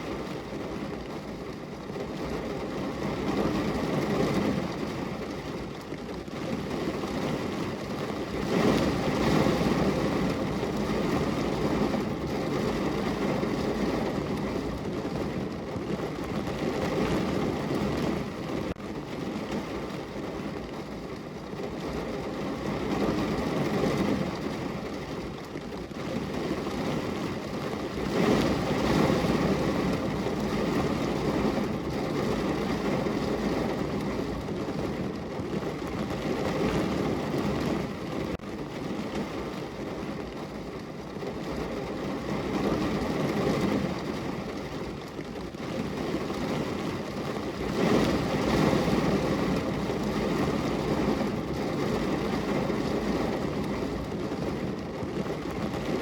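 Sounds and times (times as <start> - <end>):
heavy rain on car roof: 0.0 - 56.0.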